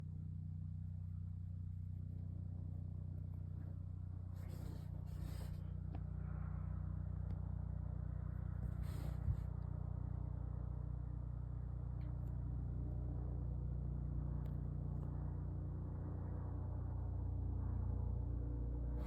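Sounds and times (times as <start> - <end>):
helicopter rotor drone: 0.0 - 19.0.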